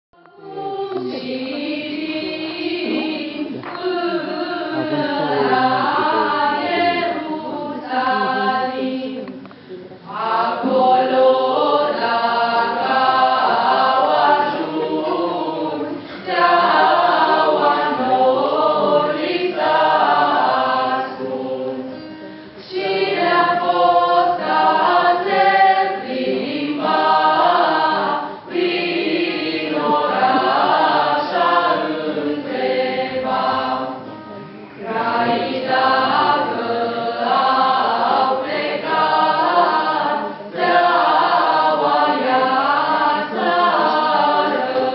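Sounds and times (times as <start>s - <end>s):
choir singing a carol: 0.2s - 44.9s.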